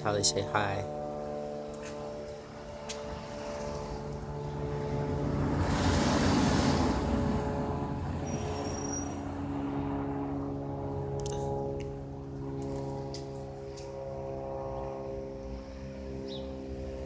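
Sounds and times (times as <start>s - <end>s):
propeller aircraft droning overhead: 0.0s - 17.0s.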